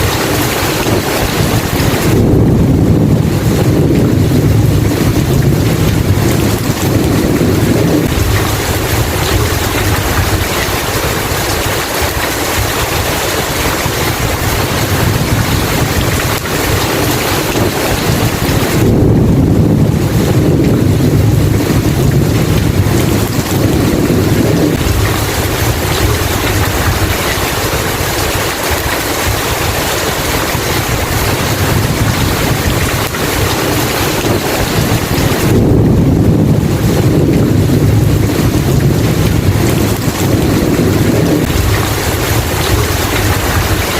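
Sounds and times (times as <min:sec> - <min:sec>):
heavy rain: 0:00.0 - 0:43.9
low rolling thunder: 0:00.0 - 0:43.9.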